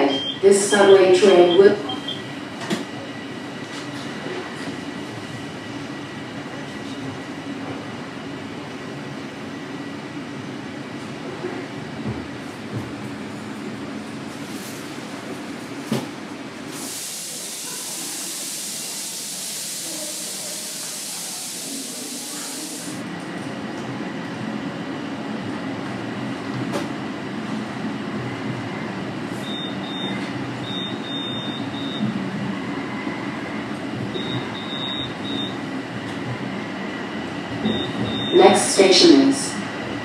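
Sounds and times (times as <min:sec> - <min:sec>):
subway car rumble: 0:00.0 - 0:40.0.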